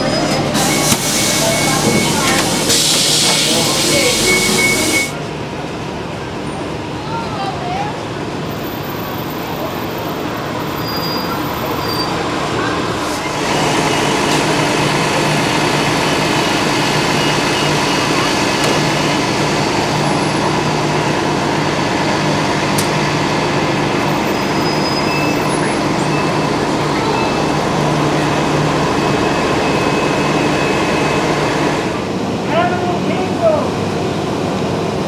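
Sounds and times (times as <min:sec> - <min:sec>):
bus engine idling: 0:00.0 - 0:35.0.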